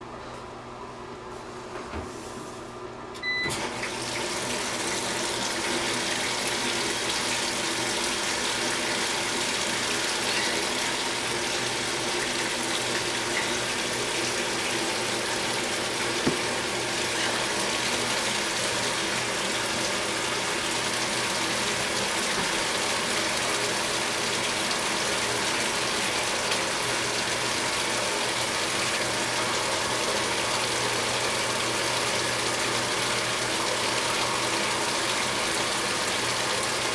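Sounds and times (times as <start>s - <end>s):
water rushing into tub: 3.5s - 36.9s.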